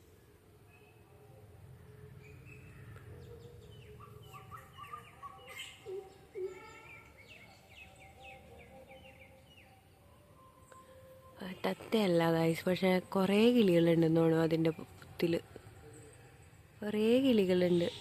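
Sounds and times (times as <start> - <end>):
small birds chirping: 0.6 - 18.0.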